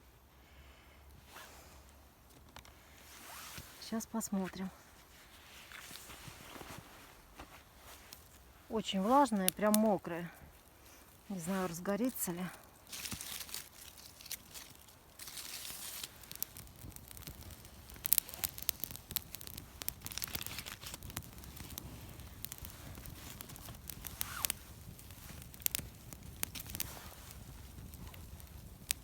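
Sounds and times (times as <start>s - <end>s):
campfire crackling and popping: 1.1s - 29.0s.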